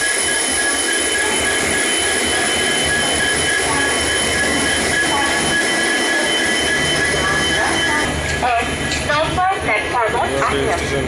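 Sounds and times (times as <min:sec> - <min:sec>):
train wheels squealing on rails: 0:00.0 - 0:09.8
rumbling rail noise: 0:00.0 - 0:11.0.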